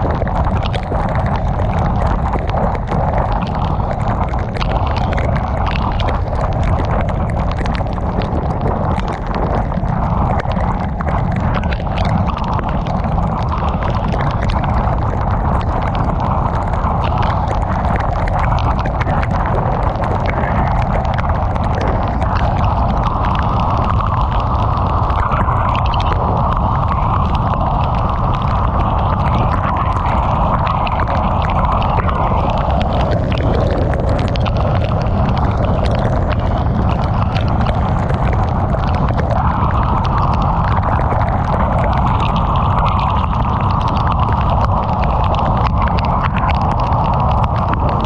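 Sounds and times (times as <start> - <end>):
heavy rain hitting a car: 0.0 - 48.0.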